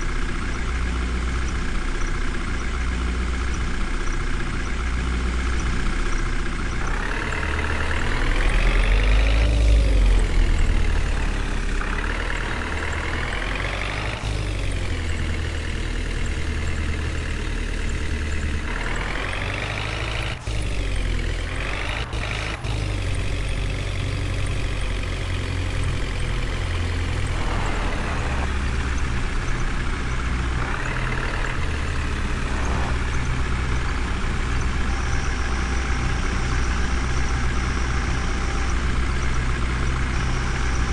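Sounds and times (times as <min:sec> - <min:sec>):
engine revving: 0:02.7 - 0:40.9.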